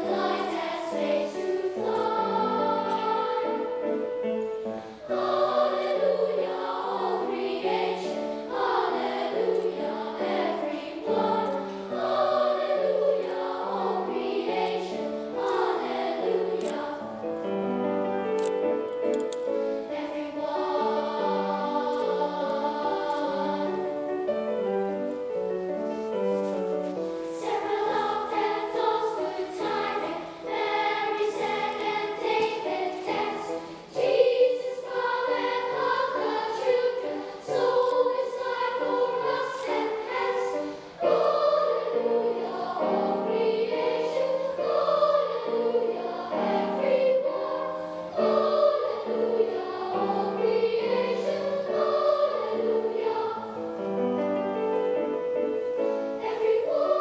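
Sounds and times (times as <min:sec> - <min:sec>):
boys' choir singing: 0:00.0 - 0:17.6, 0:19.8 - 0:24.4, 0:27.0 - 0:54.2, 0:55.7 - 0:57.0.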